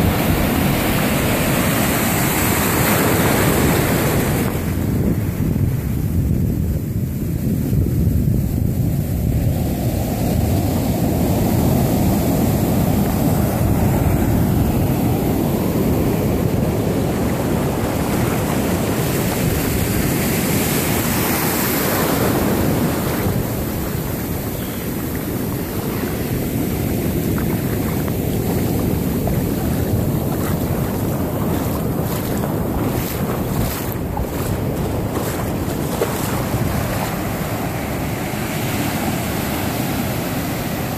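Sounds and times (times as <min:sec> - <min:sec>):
ocean surf breaking: 0:00.0 - 0:05.8, 0:09.5 - 0:40.9
wind rumble on microphone: 0:00.0 - 0:40.9.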